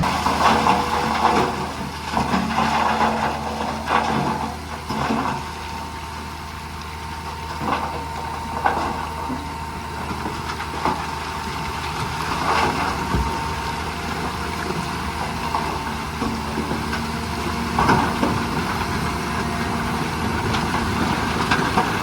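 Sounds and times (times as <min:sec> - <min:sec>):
heavy diesel machinery drone: 0:00.0 - 0:22.0.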